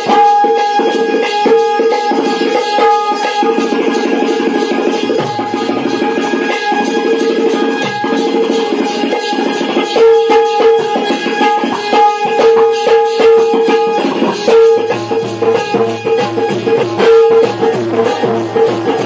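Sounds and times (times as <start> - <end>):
melody with held note: 0.0 - 17.8
steady drum rhythm: 0.0 - 19.0.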